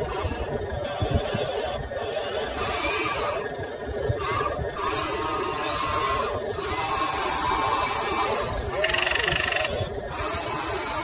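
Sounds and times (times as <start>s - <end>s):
toy excavator motors whirring: 0.0s - 11.0s.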